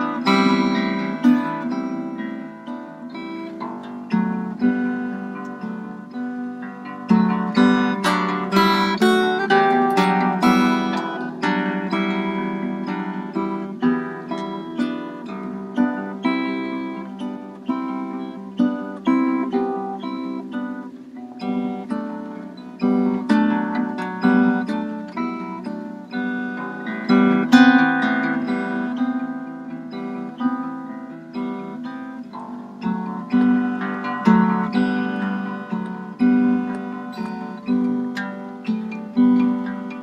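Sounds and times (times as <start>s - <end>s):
harp guitar fingerstyle: 0.0s - 40.0s.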